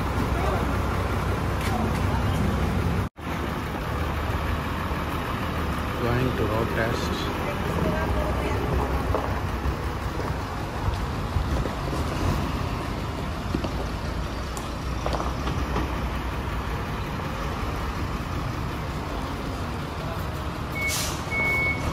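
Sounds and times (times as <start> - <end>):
diesel truck engine running: 0.0 - 21.9
truck moving across gravel: 0.0 - 21.9.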